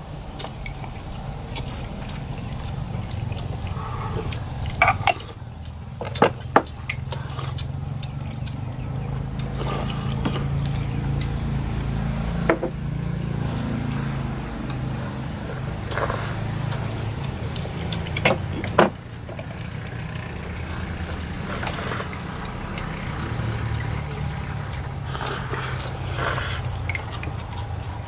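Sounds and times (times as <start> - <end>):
steady low hum: 0.0 - 28.0
utensils clinking on porcelain bowls: 0.4 - 12.8, 14.2 - 28.0.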